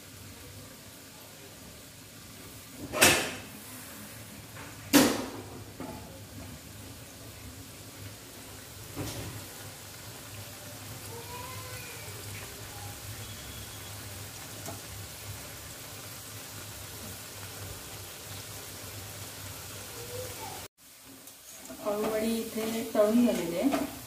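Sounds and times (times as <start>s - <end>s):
frying in hot oil sizzle: 0.0s - 24.0s.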